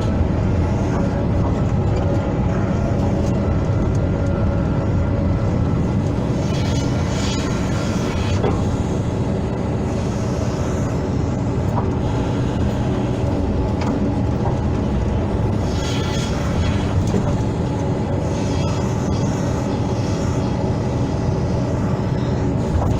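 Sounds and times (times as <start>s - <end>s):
excavator diesel engine: 0.0s - 22.9s
hydraulics droning: 0.0s - 22.9s.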